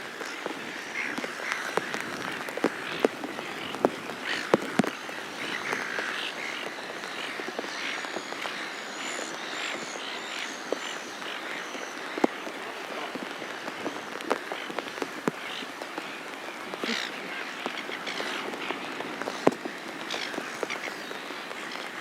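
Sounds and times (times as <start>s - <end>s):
gulls calling harshly: 0.5s - 22.0s.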